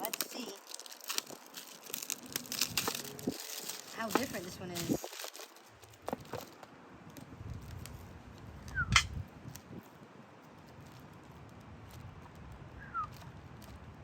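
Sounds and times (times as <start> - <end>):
low steady rumble: 0.4 - 14.0.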